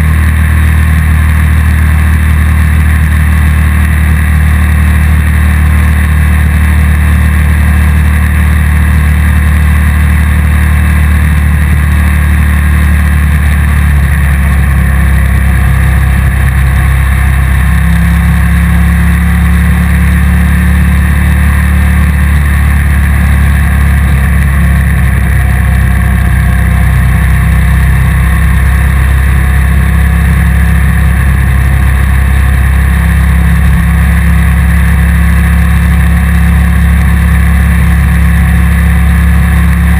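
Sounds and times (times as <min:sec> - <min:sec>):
motorcycle engine and road rumble: 0:00.0 - 0:39.9.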